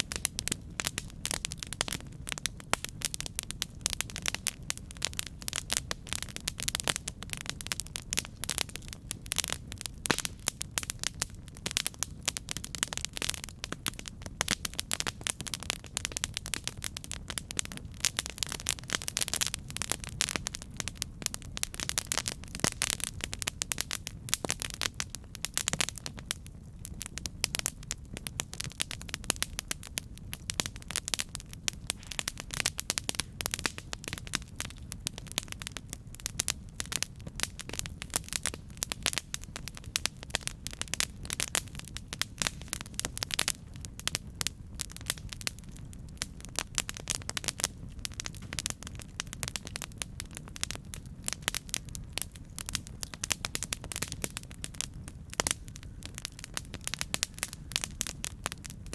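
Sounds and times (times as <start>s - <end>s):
burning wood crackling and popping: 0.0s - 58.9s
low rumble of flames: 0.0s - 58.9s.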